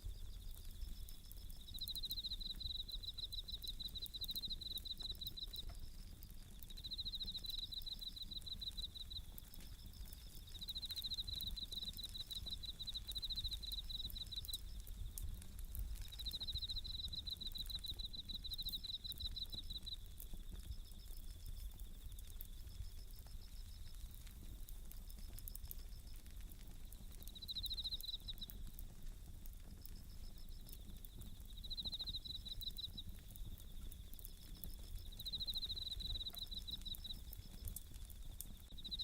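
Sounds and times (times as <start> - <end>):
campfire crackling: 0.0 - 39.0
crickets trilling: 0.0 - 39.0.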